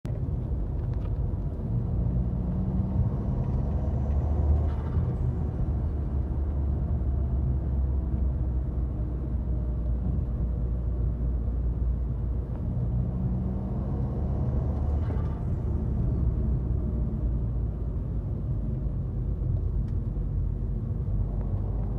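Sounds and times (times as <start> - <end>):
car engine accelerating: 0.2 - 21.9.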